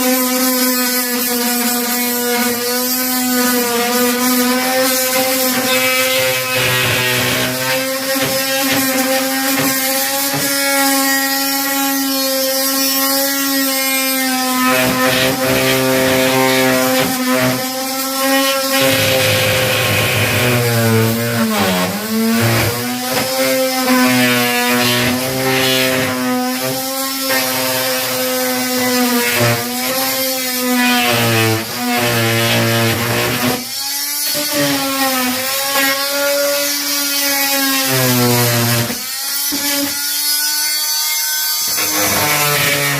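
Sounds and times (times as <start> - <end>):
power tool motor running: 2.1 - 42.9.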